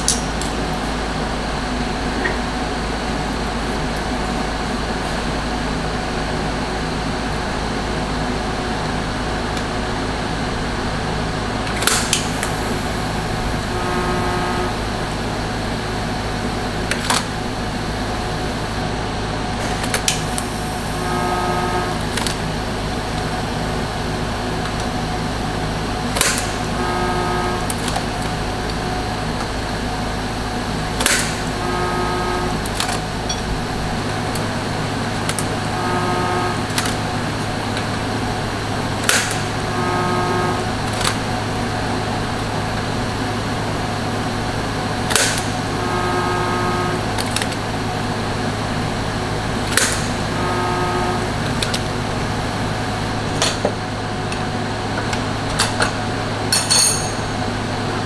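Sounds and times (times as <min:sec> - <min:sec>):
welding arc crackling and buzzing: 0:00.0 - 0:56.5
steady electrical hum: 0:00.0 - 0:58.0.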